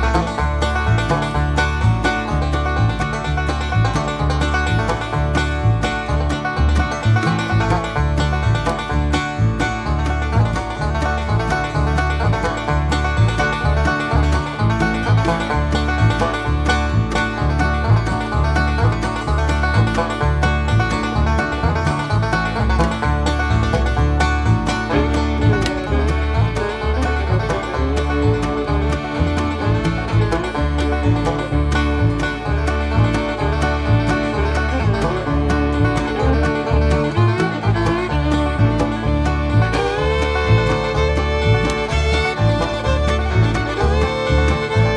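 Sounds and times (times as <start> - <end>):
country music with banjo: 0.0 - 44.9.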